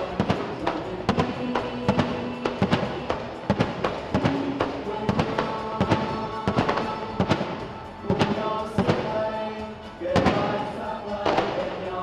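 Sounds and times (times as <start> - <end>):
fireworks bursting: 0.0 - 12.0
music with heavy drum beat: 0.0 - 12.0.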